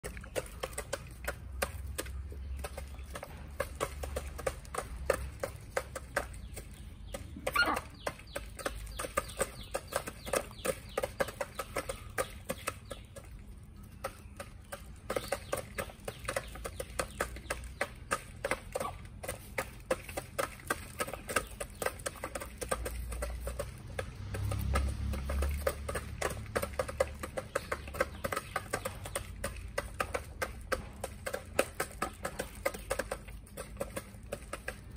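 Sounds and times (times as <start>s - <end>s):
beaks pecking at feed: 0.0s - 34.9s
chickens clucking: 0.0s - 34.9s.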